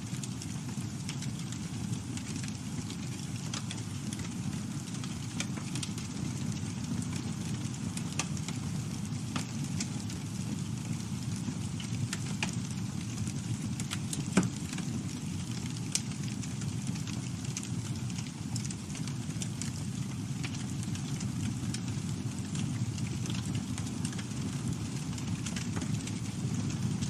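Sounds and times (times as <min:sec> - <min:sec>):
campfire rumbling: 0:00.0 - 0:27.0
fire crackling and popping: 0:00.0 - 0:27.0.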